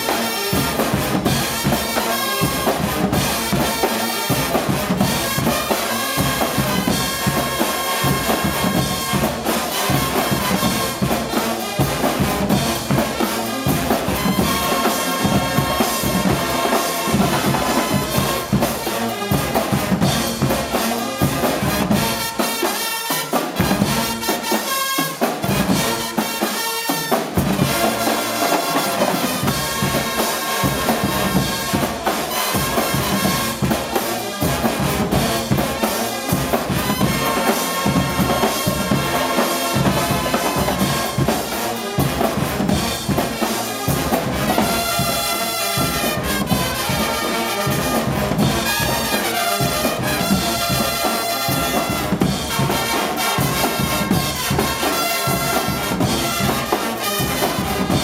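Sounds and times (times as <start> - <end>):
bass drum and drum kit: 0.0 - 22.4, 29.0 - 58.0
trumpets and trombones: 0.0 - 58.0.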